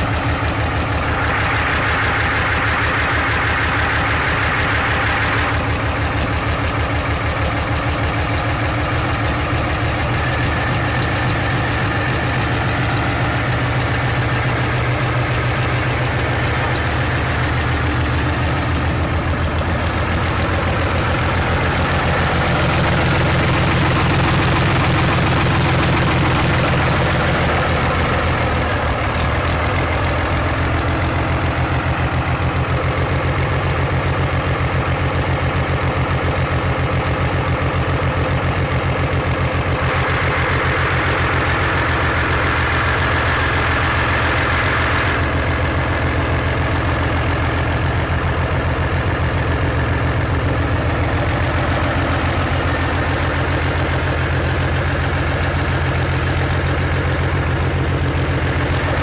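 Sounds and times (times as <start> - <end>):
unmuffled engine idling: 0.0 - 59.0.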